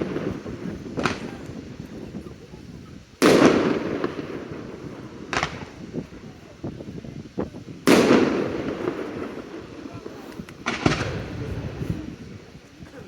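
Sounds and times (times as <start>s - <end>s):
firework shells bursting: 0.0s - 12.8s
firework cracks and pops: 0.0s - 13.0s.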